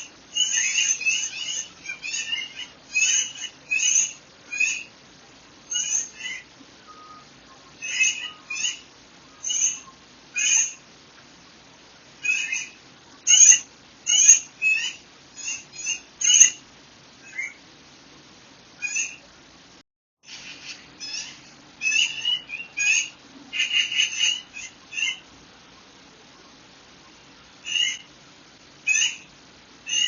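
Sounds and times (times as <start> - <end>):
songbirds chirping and trilling: 0.0 - 19.6, 20.3 - 30.0.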